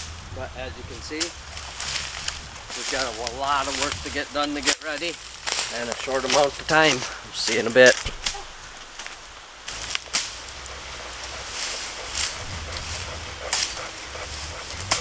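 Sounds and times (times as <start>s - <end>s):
rustling in dry leaves: 0.0s - 15.0s
sharp snaps: 1.2s - 15.0s.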